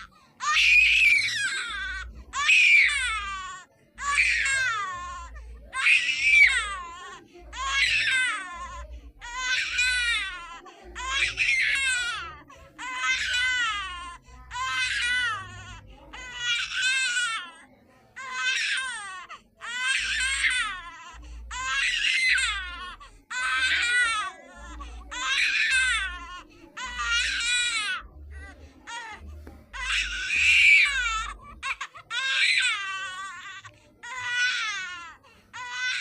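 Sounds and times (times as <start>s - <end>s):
baby crying: 0.0s - 17.6s, 18.2s - 36.0s.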